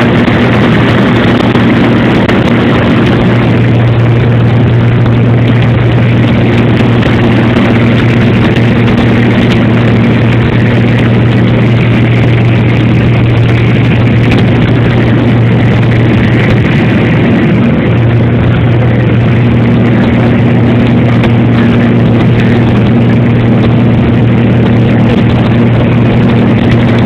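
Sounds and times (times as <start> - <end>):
airplane engines droning: 0.0 - 27.0.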